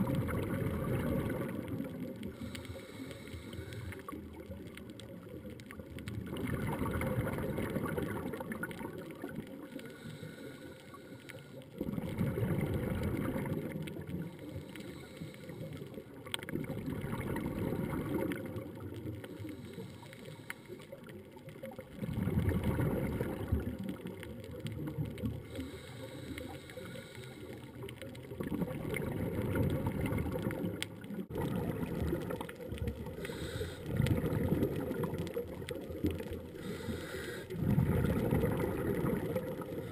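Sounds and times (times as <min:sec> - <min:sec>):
bubbles gurgling underwater: 0:00.0 - 0:03.0, 0:03.8 - 0:09.8, 0:11.7 - 0:15.1, 0:15.7 - 0:19.7, 0:21.0 - 0:25.9, 0:27.6 - 0:39.9.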